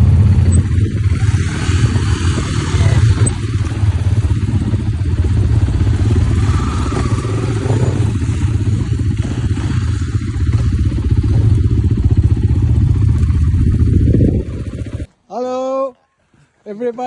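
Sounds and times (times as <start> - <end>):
off-road motorcycle engine running: 0.0 - 15.1.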